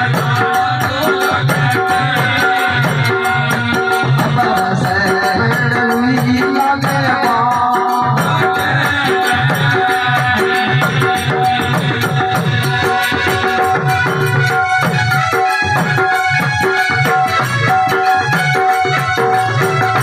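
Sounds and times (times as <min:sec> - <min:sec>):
drum beat: 0:00.0 - 0:20.0
jingling percussion: 0:00.0 - 0:20.0.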